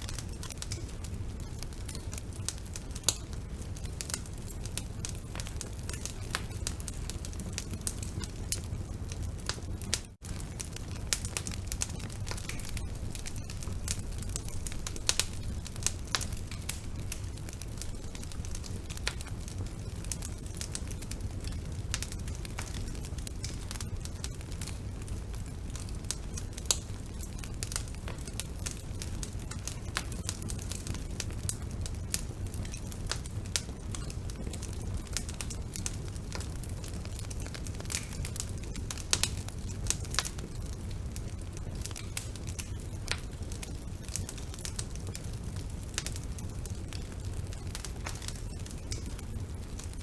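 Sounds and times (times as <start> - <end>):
low rumble of flames: 0.0 - 50.0
wood fire crackling and popping: 0.0 - 50.0.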